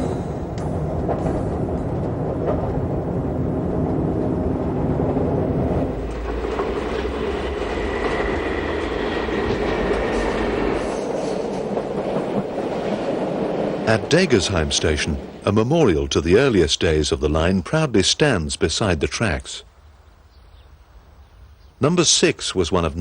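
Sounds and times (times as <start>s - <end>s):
train wheels rumbling on rails: 0.0s - 19.7s.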